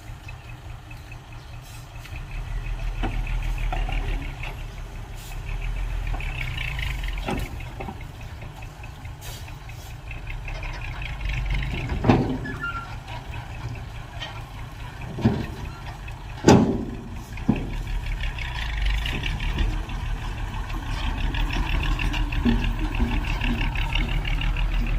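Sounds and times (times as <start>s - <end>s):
heavy diesel engine rumbling: 0.0s - 24.9s.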